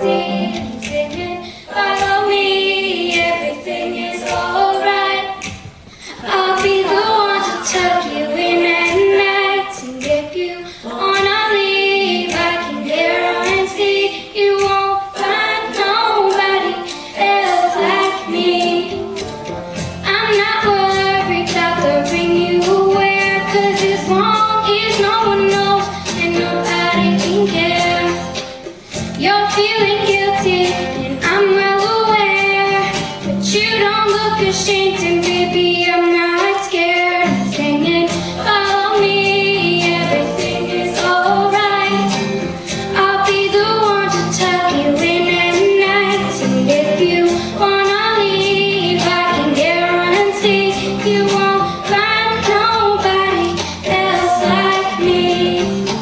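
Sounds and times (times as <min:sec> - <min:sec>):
backing track with steady beat: 0:00.0 - 0:56.0
girl singing pop song: 0:00.0 - 0:56.0.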